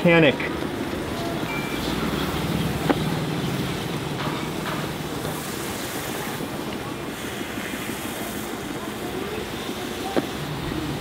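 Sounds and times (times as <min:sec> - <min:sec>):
tea sizzling on a hot clay cup: 0:01.6 - 0:11.0.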